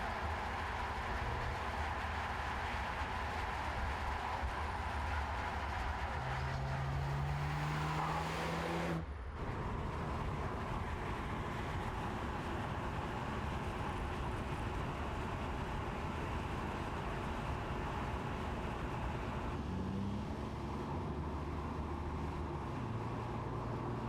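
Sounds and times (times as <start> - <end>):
car cruising road noise: 0.0 - 24.0
car engine accelerating: 0.0 - 24.0.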